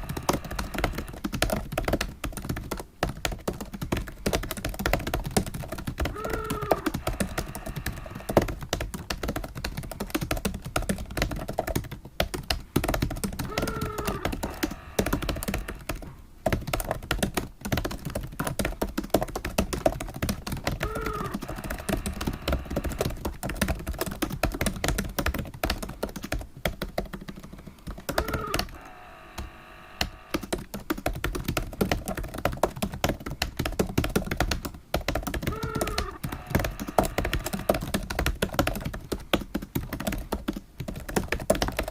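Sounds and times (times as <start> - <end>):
fast typing on keyboard: 0.0 - 41.9.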